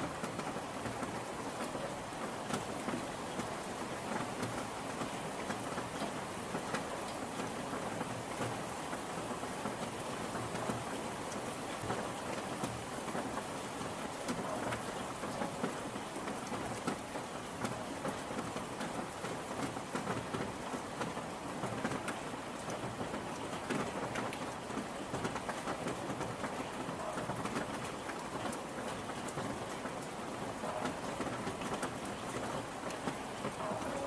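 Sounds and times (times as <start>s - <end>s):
rain drops ticking on hard surface: 0.0s - 34.0s
steady rain hiss: 0.0s - 34.0s.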